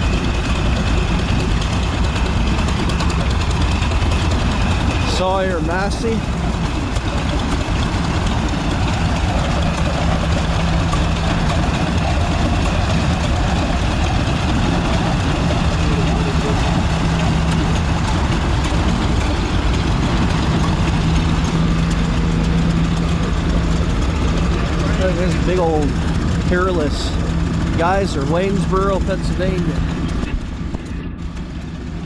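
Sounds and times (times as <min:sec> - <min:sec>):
engine machinery running: 0:00.0 - 0:32.0.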